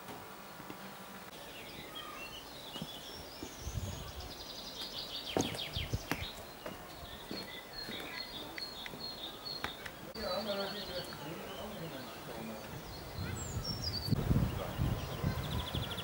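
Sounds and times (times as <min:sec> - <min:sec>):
low outdoor hiss: 0:00.0 - 0:16.0
small birds chirping: 0:00.4 - 0:16.0.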